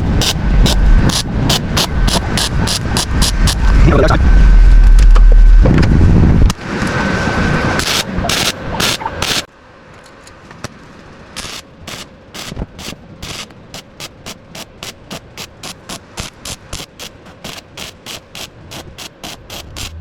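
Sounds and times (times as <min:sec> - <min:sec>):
welder arc crackling: 0:00.0 - 0:07.0, 0:07.8 - 0:09.5, 0:11.3 - 0:20.0.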